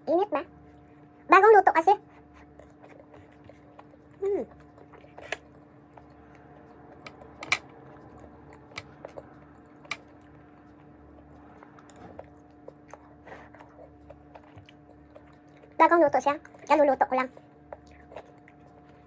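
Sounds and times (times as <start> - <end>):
low hum: 0.0 - 19.0
close chewing with crunches: 0.5 - 19.0.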